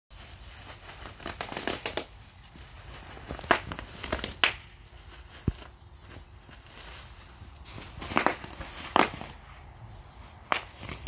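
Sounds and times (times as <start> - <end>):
bubble wrap popping: 0.1 - 9.5, 10.3 - 11.0
bubble wrap crinkling: 0.1 - 11.0.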